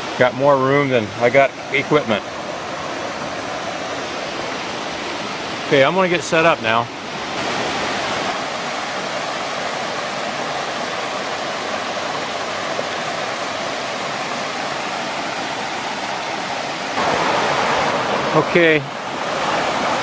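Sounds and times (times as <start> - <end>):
small waterfall rushing: 0.0 - 20.0.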